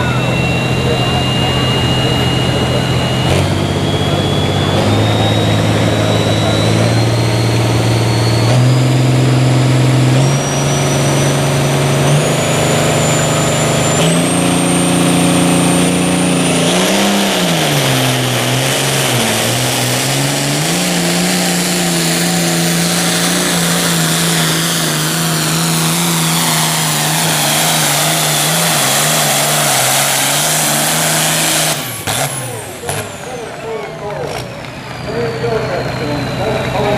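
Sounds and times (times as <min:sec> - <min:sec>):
high turbo whine: 0:00.0 - 0:36.9
tractor diesel engine under load: 0:00.0 - 0:36.9.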